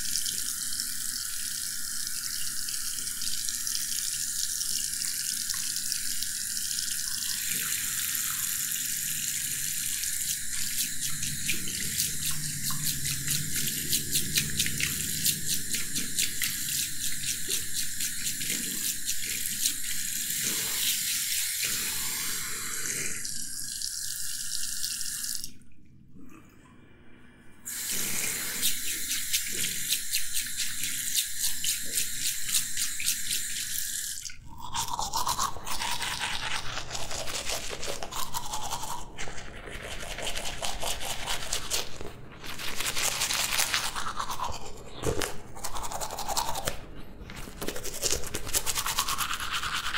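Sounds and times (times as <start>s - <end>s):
tap water running into basin: 0.0s - 25.8s, 27.7s - 49.9s.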